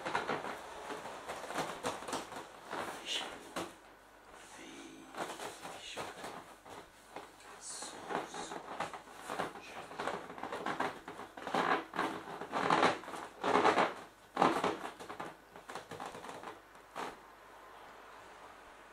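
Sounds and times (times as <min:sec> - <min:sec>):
vinyl pool toy crinkling: 0:00.0 - 0:03.9, 0:05.1 - 0:17.2.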